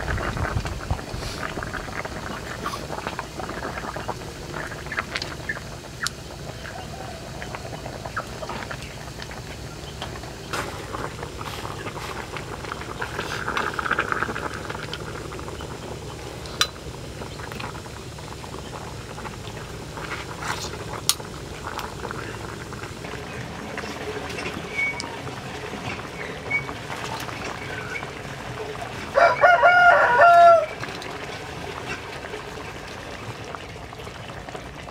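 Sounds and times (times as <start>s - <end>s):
soup bubbling at a boil: 0.0s - 34.9s.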